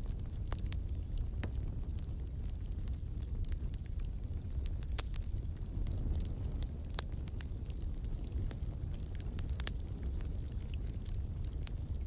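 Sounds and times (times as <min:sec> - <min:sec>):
fire crackling and popping: 0:00.0 - 0:12.0
low rumble of flames: 0:00.0 - 0:12.0.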